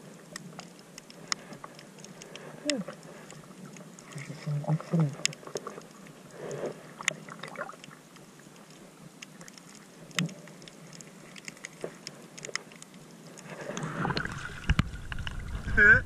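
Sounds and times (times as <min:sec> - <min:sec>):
small clicks and ticks: 0:00.0 - 0:14.0, 0:14.6 - 0:15.4
underwater moving water: 0:00.0 - 0:16.0.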